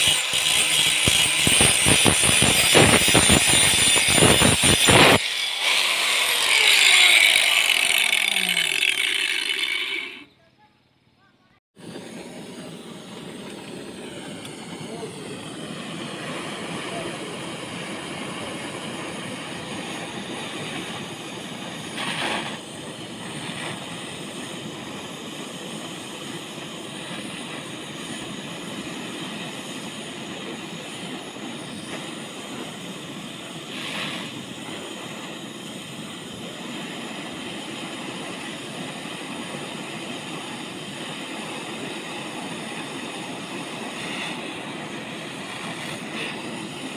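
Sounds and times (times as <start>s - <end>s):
gas torch hissing: 0.0s - 10.3s, 11.8s - 46.9s.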